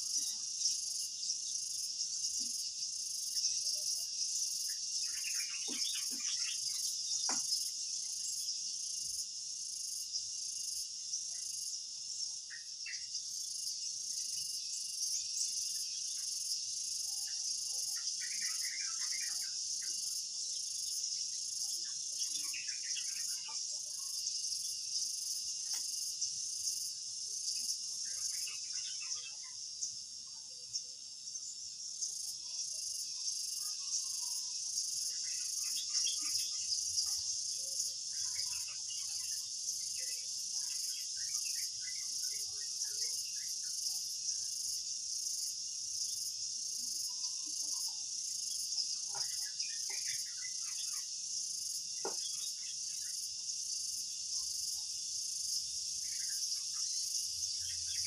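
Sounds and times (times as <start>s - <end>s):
insect chirp clusters: 0.0s - 58.0s
insects chirring: 0.0s - 58.0s.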